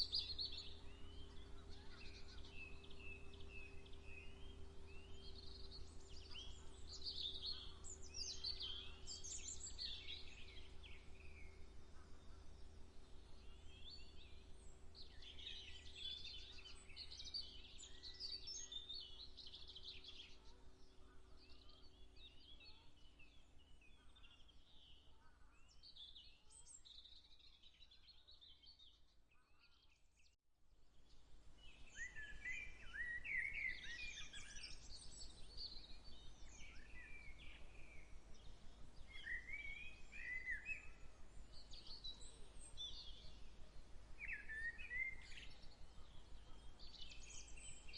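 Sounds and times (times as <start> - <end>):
small birds chirping and singing: 0.0 - 47.9.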